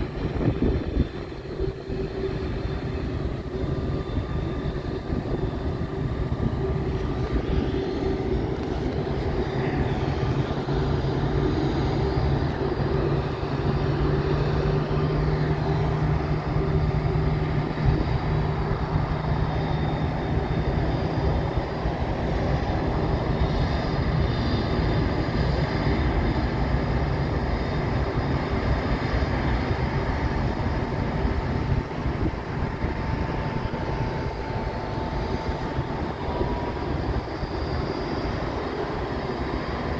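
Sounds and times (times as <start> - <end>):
jet engine whine: 0.0 - 39.9
jet engines rumbling: 0.0 - 39.9.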